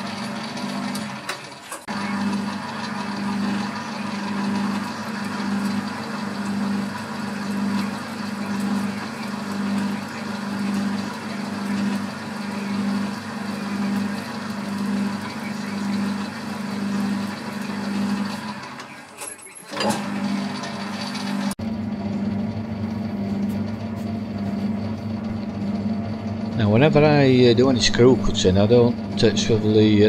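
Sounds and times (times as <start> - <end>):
lathe motor humming: 0.0 - 30.0.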